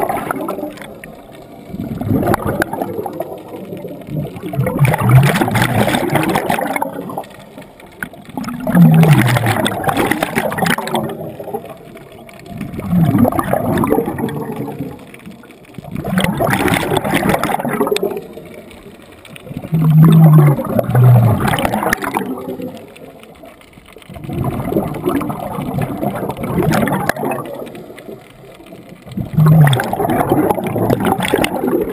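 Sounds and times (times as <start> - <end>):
bubbling exhalations: 0.0 - 7.5, 8.3 - 15.1, 15.8 - 18.4, 19.4 - 22.8, 24.1 - 28.2, 29.1 - 31.9.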